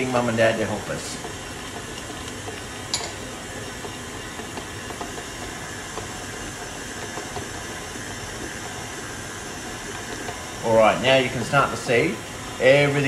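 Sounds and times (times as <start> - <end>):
electric stand mixer running: 0.0 - 13.0.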